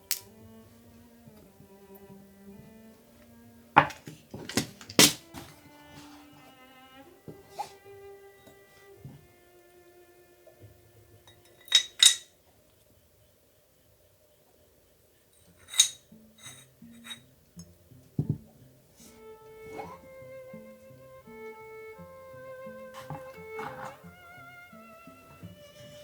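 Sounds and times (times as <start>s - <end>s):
soft background music: 0.0s - 12.1s, 15.4s - 26.0s.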